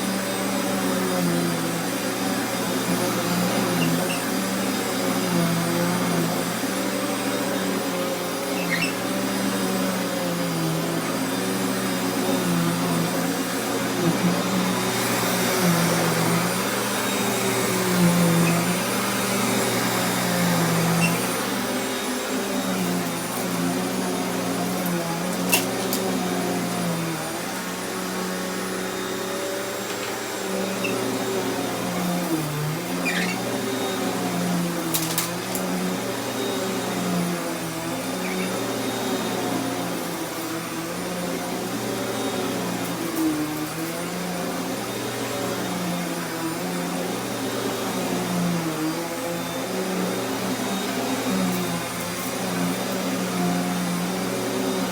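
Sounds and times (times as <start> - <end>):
vacuum cleaner motor hum: 0.0 - 54.9.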